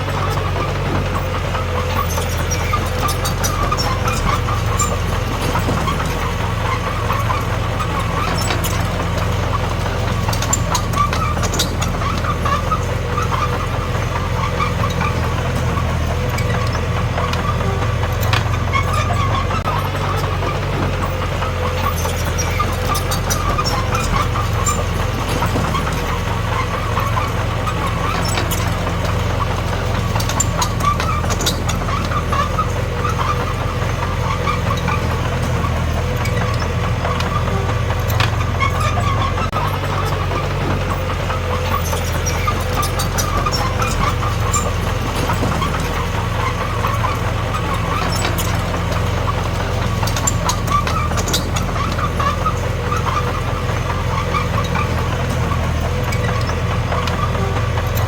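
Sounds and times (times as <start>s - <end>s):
bulldozer diesel engine running: 0.0s - 58.0s
light clicks and clanks: 0.0s - 58.0s.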